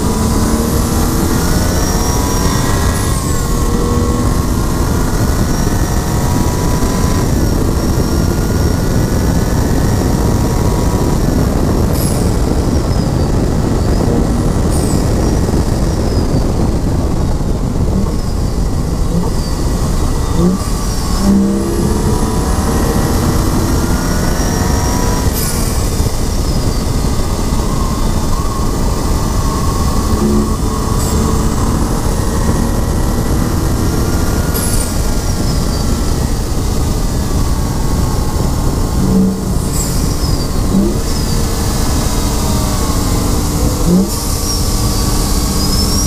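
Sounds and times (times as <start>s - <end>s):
car engine revving: 0.0s - 46.0s
wind and road noise: 0.0s - 46.0s.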